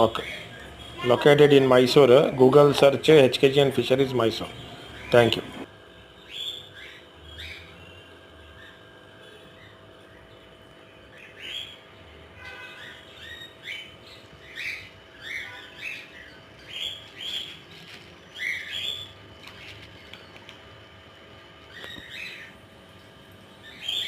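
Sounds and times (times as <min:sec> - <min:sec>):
birds chirping: 0:00.0 - 0:24.0
faint steady hum: 0:00.0 - 0:24.0.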